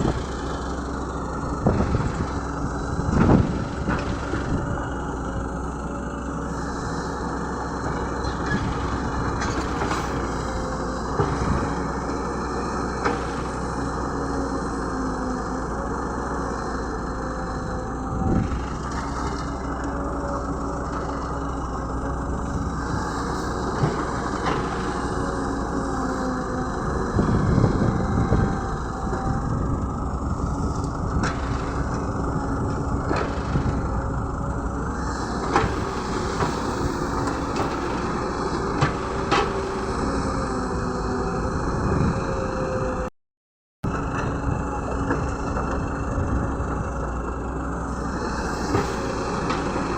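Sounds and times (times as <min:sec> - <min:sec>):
excavator diesel engine running: 0:00.0 - 0:43.1, 0:43.8 - 0:49.9.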